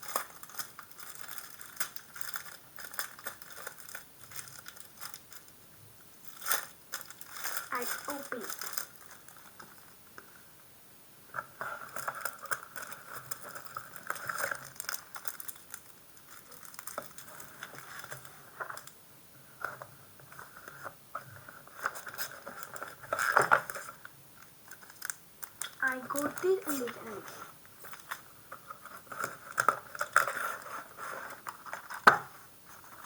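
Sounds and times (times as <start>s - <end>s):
wrapper crinkling and tearing: 0.0s - 5.5s, 6.2s - 9.8s, 11.4s - 19.0s, 21.7s - 33.0s.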